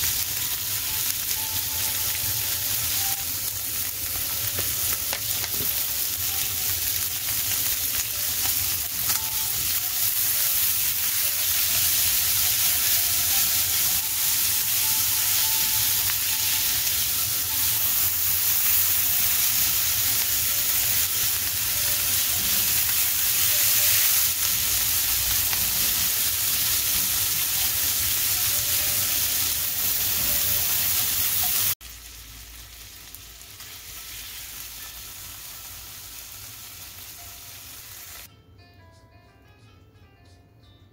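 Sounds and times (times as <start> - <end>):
food sizzling in a skillet: 0.0 - 38.3.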